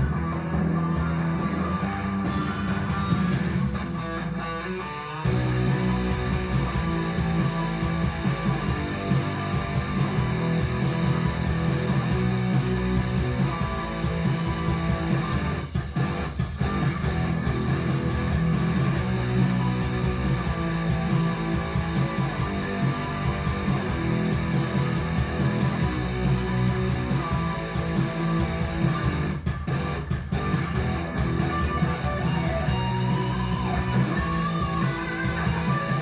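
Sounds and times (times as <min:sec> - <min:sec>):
bass line: 0:00.0 - 0:04.6, 0:05.2 - 0:36.0
guitar music through speakers: 0:00.0 - 0:36.0.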